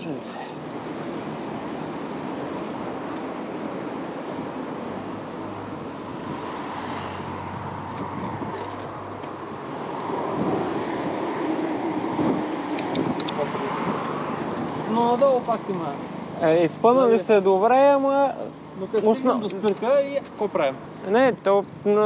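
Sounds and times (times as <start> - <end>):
rushing street traffic noise: 0.0 - 22.0.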